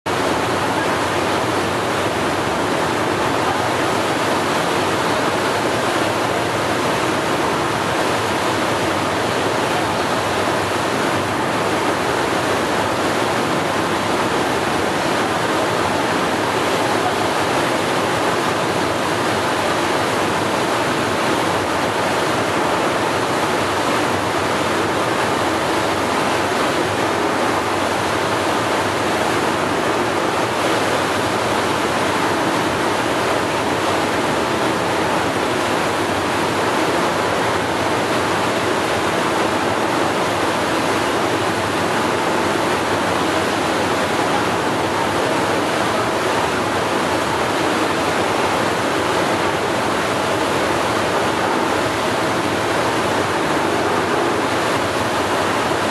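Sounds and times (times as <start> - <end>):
waves rushing: 0.1 - 55.9
wind: 0.1 - 55.9.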